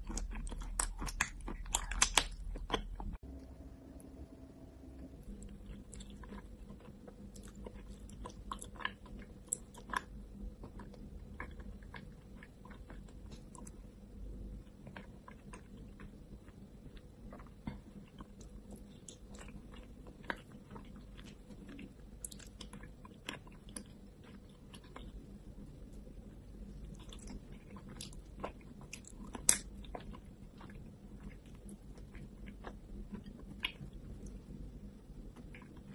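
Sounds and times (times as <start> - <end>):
wet chewing and smacking: 0.0 - 3.2, 5.2 - 35.9
faint steady hum: 0.0 - 35.9.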